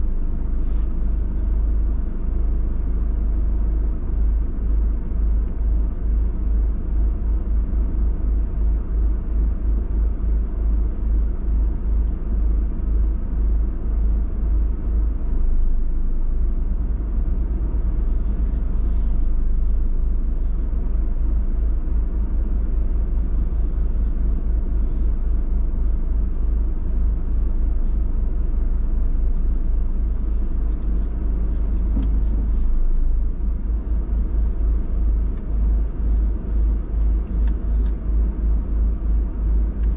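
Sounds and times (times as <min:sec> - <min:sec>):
car engine rumble: 0:00.0 - 0:39.9.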